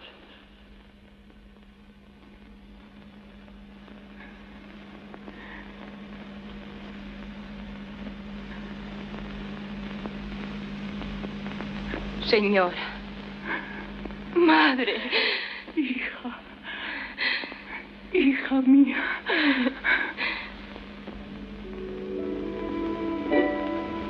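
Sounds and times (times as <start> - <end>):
film soundtrack hum and hiss: 0.0 - 24.0.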